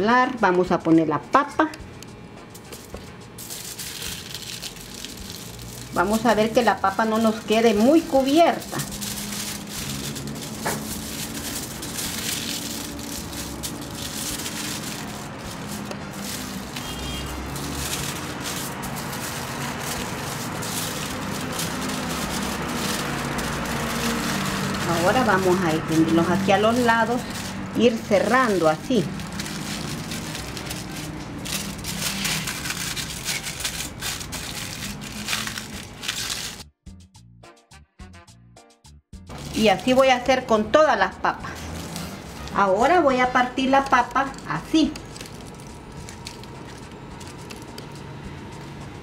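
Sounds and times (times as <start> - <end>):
aluminium foil crinkling: 2.6 - 36.7, 39.3 - 40.5, 41.5 - 48.9.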